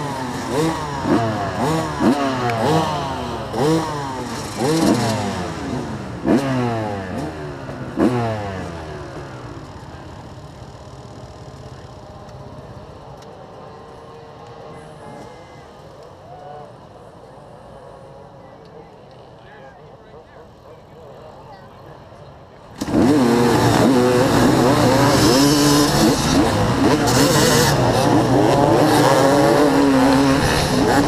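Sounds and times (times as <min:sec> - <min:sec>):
motorbike engines revving: 0:00.0 - 0:31.0.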